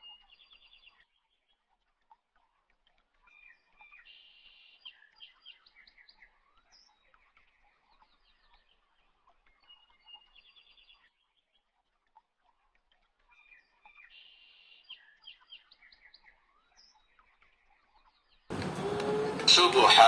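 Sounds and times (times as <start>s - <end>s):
faint birdsong chirps and trills: 0.0s - 19.4s.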